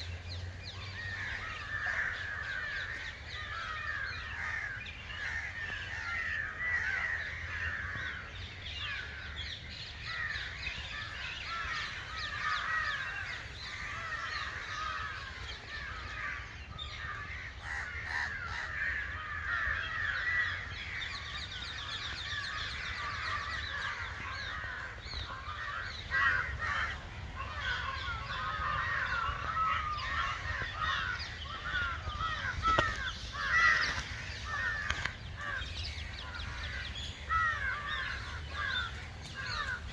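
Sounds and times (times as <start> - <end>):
chorus of birds calling: 0.0 - 39.9.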